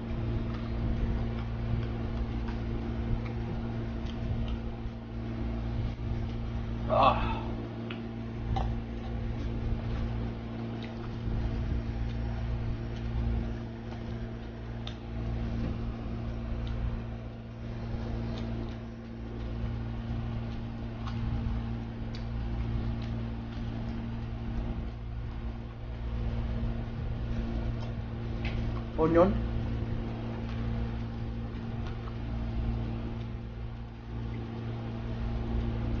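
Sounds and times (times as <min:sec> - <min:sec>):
person chewing vegetables: 0:00.0 - 0:36.0
steady low hum: 0:00.0 - 0:36.0.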